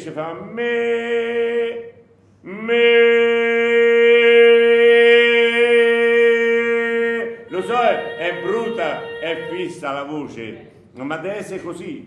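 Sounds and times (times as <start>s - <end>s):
man singing a long note: 0.2s - 10.2s.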